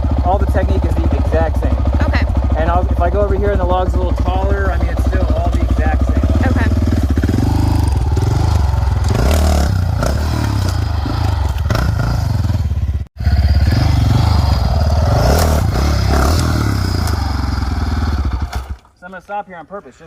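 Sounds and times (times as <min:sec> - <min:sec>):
dirt bike engine at low speed: 0:00.0 - 0:19.0.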